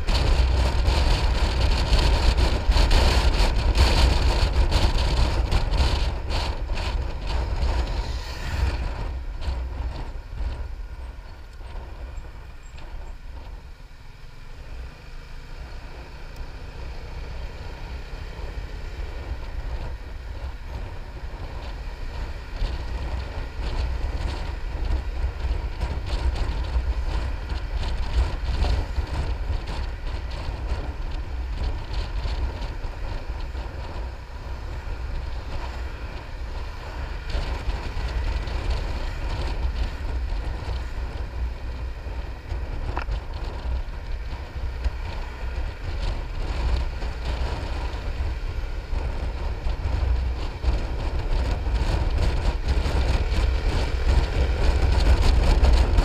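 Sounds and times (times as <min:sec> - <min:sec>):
road noise: 0:00.0 - 0:56.0
scooter engine running: 0:00.0 - 0:56.0
wind rumbling on microphone: 0:00.0 - 0:56.0.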